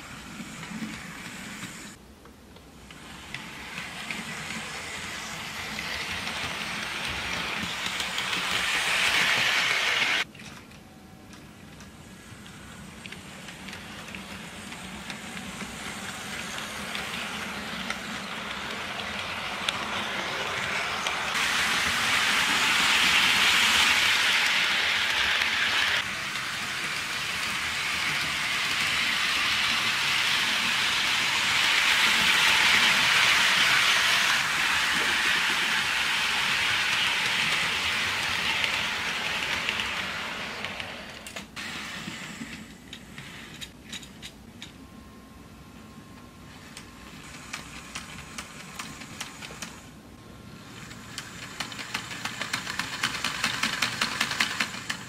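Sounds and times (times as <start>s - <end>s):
model train whirring and rattling: 0.0s - 2.0s, 2.8s - 10.3s, 11.3s - 44.8s, 46.2s - 55.0s.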